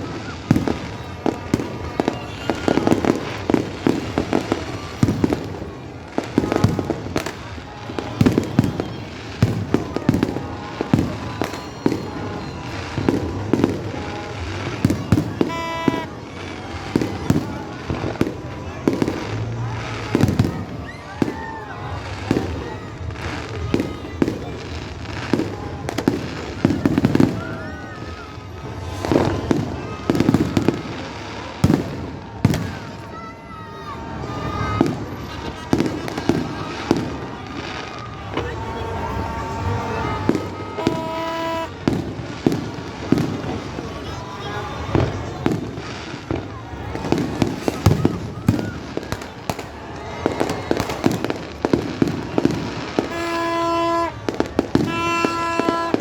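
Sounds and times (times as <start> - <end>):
crackling firework reports: 0.0 - 56.0
fireworks bangs: 0.0 - 56.0.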